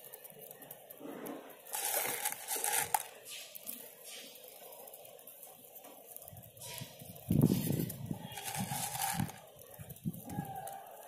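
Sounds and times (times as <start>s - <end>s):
bird feed rustling and crackling: 0.0s - 11.0s
pellets ticking on concrete: 0.0s - 11.0s.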